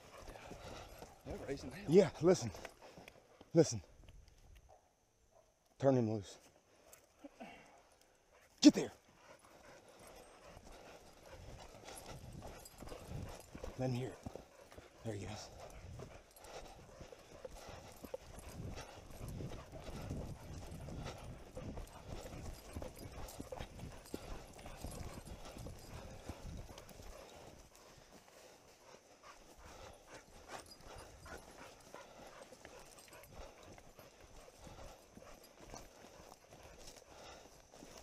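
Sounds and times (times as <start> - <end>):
footsteps on dirt trail: 0.0 - 4.8, 6.3 - 38.0.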